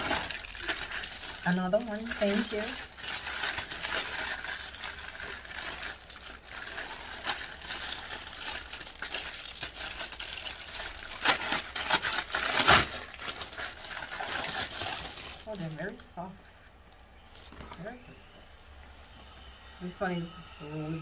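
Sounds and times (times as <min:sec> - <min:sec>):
plastic packaging crinkling: 0:00.0 - 0:16.4, 0:17.2 - 0:18.0.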